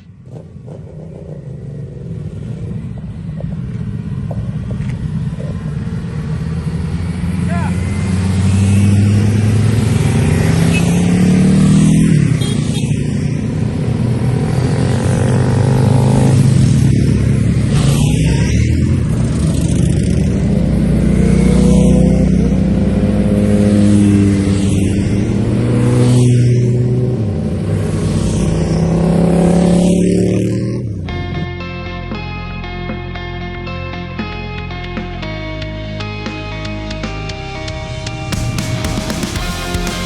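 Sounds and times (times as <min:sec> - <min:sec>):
motorcycle engine shifting gears: 0:00.0 - 0:40.0.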